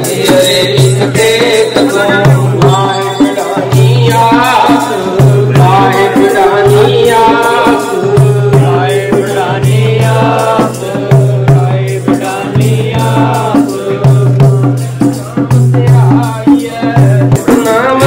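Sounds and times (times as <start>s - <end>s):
group singing a hymn: 0.0s - 18.0s
hand drum beat: 0.0s - 18.0s.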